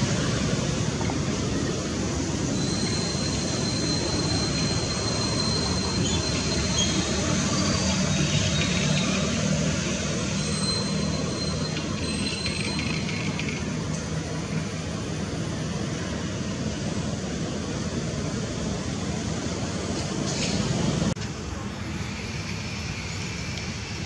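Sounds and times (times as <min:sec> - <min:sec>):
rushing outdoor noise: 0:00.0 - 0:24.0.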